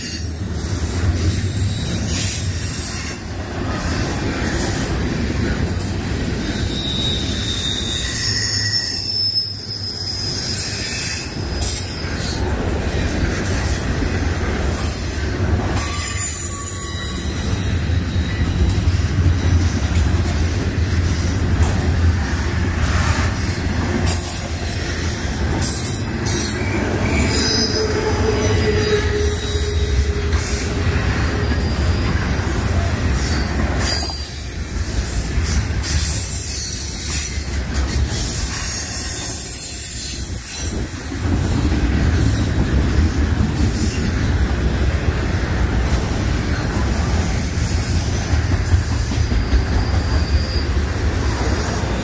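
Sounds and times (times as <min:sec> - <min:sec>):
wheel squeals: 0:00.0 - 0:21.4, 0:22.8 - 0:40.9, 0:45.4 - 0:52.0
steel wheels rumbling on rail: 0:00.0 - 0:52.0.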